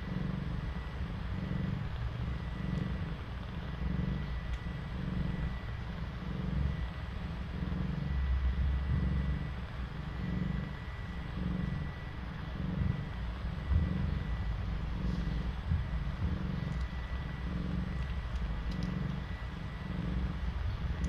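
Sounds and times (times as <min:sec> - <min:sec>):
cat purring: 0:00.0 - 0:21.0
faint high whine: 0:00.0 - 0:21.0.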